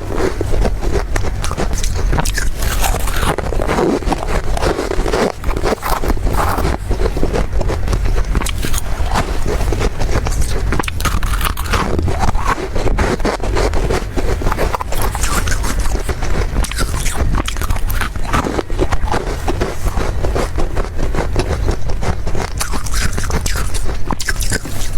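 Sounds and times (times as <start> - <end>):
low rumble: 0.0 - 22.3
chewing ice: 0.0 - 24.9.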